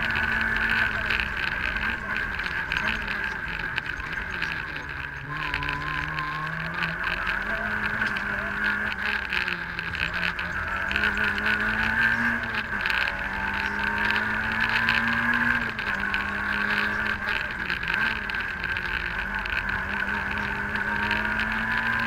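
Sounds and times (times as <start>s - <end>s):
rally car engine revving: 0.0s - 22.0s
road noise: 0.0s - 22.0s.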